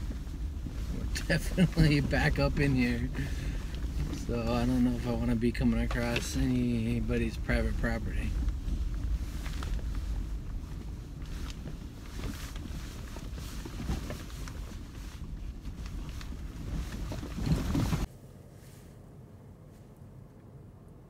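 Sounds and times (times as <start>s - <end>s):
knocks and rattles over bumps: 0.0s - 18.1s
car cabin rumble: 0.0s - 18.4s.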